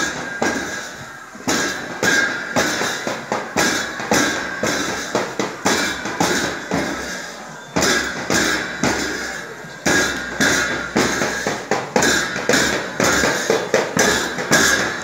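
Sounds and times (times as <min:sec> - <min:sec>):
marching drums: 0:00.0 - 0:15.0.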